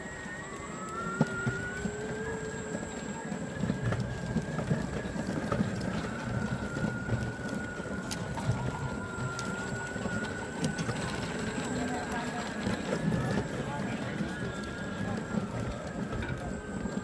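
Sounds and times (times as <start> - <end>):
electric motor whine: 0.0 - 17.0
wheels rumbling on cobbles: 0.0 - 17.0.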